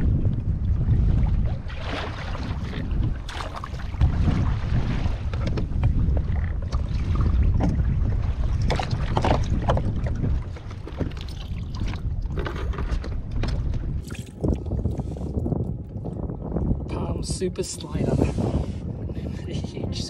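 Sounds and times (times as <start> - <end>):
water slapping kayak hull: 0.0 - 16.7
wind buffeting microphone: 0.0 - 20.0.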